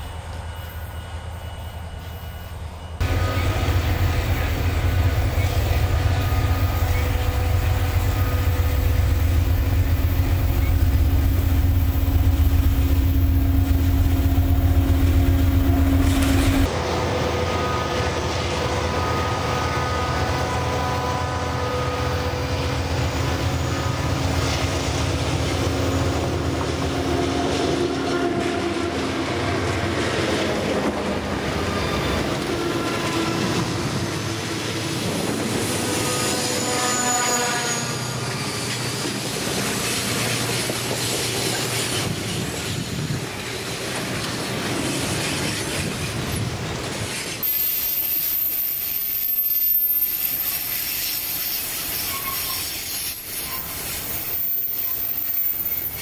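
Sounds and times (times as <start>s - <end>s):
locomotive engines passing: 0.0s - 51.0s
wheels squealing on rails: 0.0s - 56.0s.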